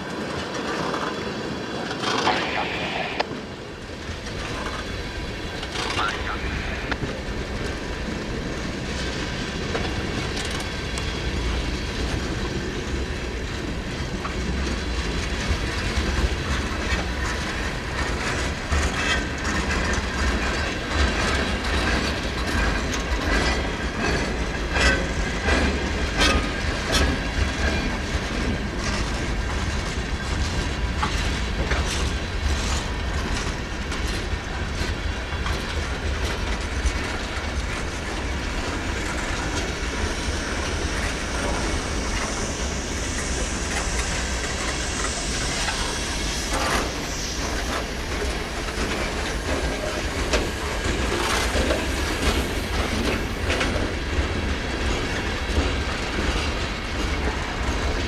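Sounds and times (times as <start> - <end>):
low train rumble: 0.0 - 58.0
train wheels clicking over rail joints: 3.2 - 58.0.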